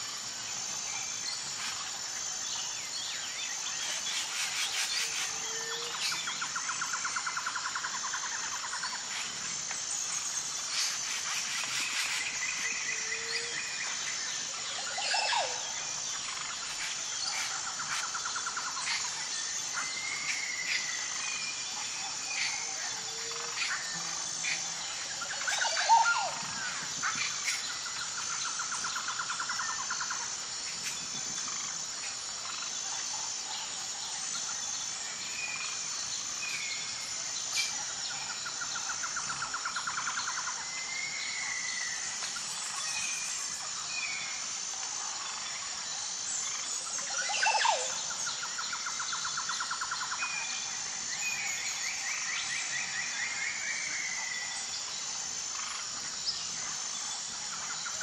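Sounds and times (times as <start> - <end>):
pulsing insect chorus: 0.0 - 58.0.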